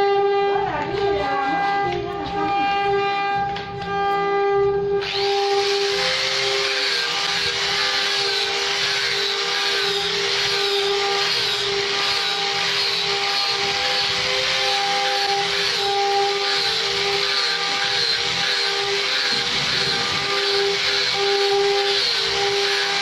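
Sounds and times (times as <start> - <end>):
angle grinder whining: 0.0 - 23.0.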